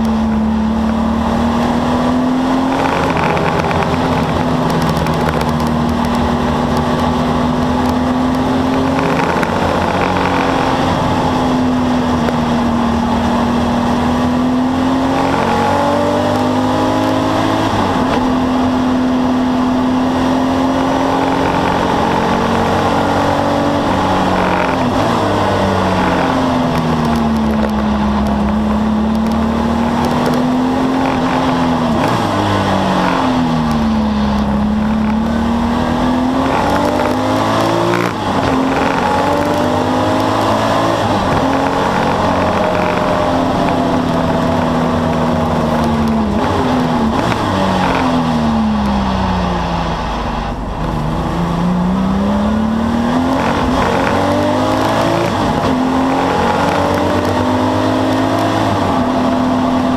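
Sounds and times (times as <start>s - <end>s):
race car engine from inside cabin: 0.0s - 59.9s.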